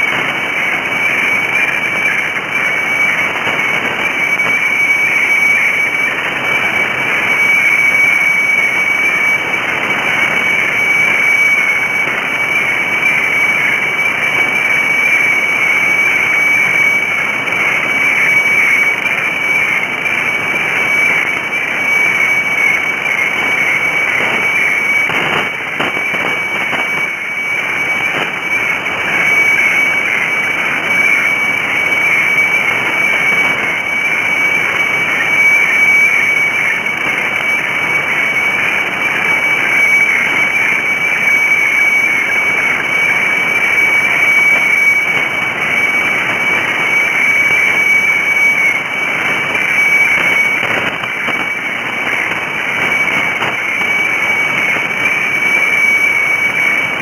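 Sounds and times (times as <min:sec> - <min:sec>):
radio static hiss: 0:00.0 - 0:57.0
steady high radio tone: 0:00.0 - 0:57.0.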